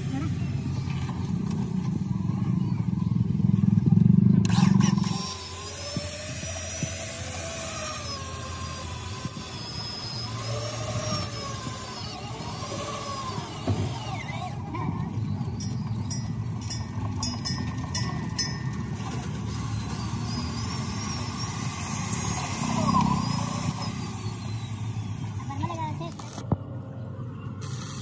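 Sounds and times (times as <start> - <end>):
low engine rumble: 0.0 - 28.0.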